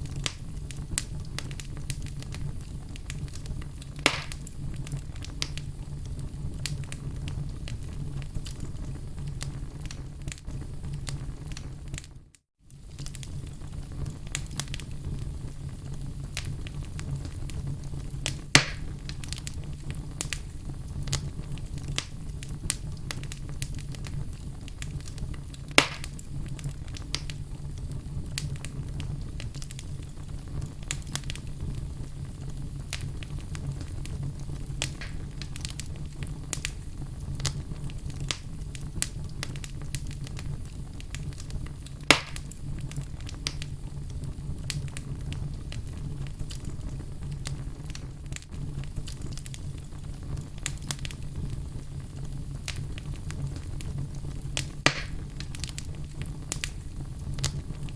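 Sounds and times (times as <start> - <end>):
fire low rumble: 0.0 - 57.9
sharp fire pops: 0.0 - 57.9
wood fire crackling: 0.0 - 57.9.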